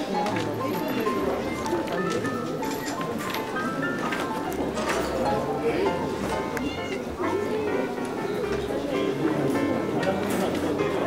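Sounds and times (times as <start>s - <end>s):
light melody of high notes: 0.0s - 11.0s.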